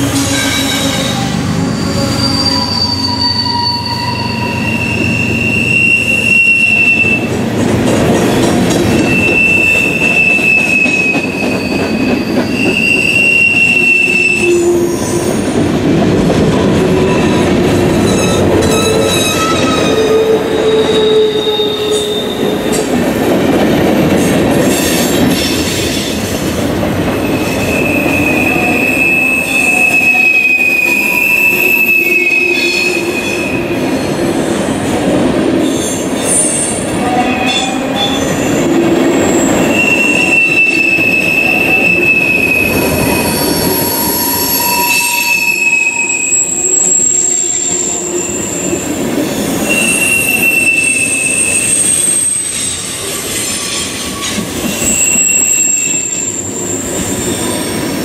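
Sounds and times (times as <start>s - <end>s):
high wheel squeal: 0.0s - 7.3s, 8.2s - 15.4s, 16.9s - 22.9s, 27.2s - 33.7s, 35.7s - 58.0s
steel wheels rumbling on rail: 0.0s - 58.0s.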